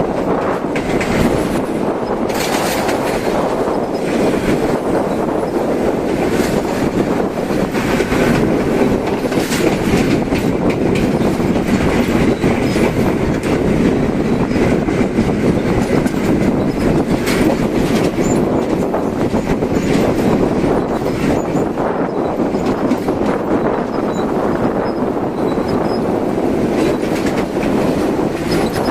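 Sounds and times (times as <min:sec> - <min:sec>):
train rolling on track: 0:00.0 - 0:28.9
wheels clacking over rail joints: 0:00.0 - 0:28.9.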